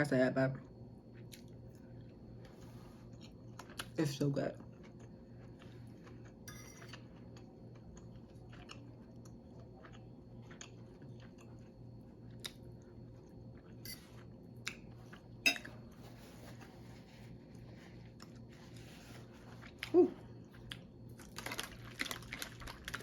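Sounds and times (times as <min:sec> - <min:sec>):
chewing food: 0:03.0 - 0:16.0, 0:17.5 - 0:23.0.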